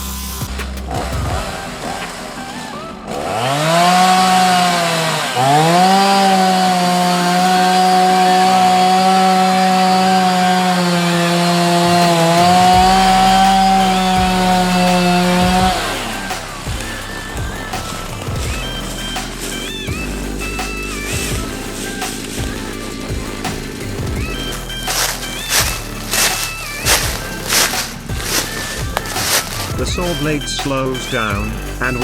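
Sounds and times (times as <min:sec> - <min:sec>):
chainsaw running at high speed: 0:00.4 - 0:32.0.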